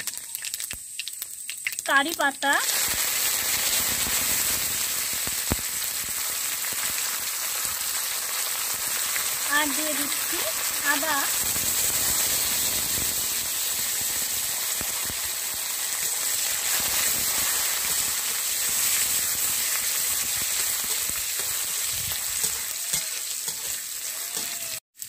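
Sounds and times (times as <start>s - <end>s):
spices sizzling in hot oil: 0.0s - 25.0s.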